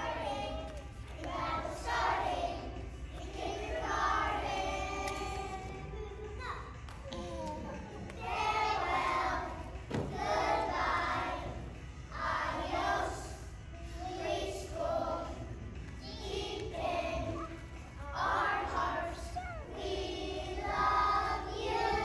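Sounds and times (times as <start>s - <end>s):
children singing together: 0.0s - 6.3s, 7.1s - 22.0s.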